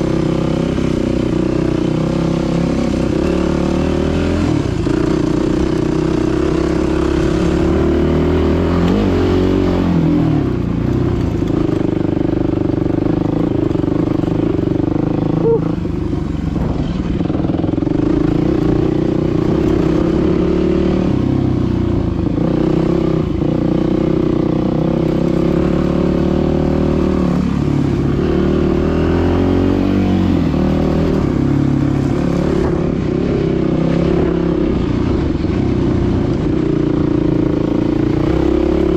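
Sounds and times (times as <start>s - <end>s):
dirt bike engine revving: 0.0s - 10.6s, 11.3s - 21.5s, 22.3s - 35.5s.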